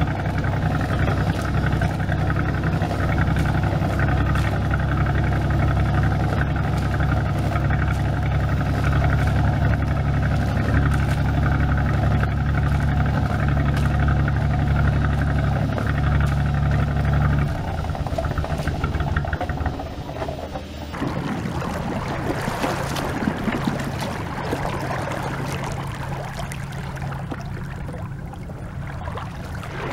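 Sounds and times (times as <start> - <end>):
boat engine idling: 0.0 - 29.9
rush of wind and water: 0.0 - 29.9
water splashing: 0.0 - 29.9.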